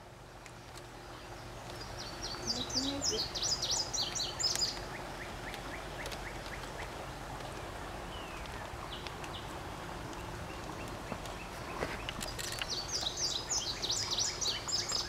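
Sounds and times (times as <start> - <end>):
birds chirping: 0.0 - 15.0
steady background hiss: 0.0 - 15.0.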